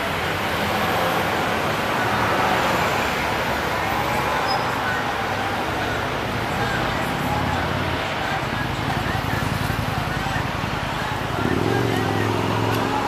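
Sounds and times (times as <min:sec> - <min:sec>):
faint voices: 0:00.0 - 0:13.0
traffic hum: 0:00.0 - 0:13.0.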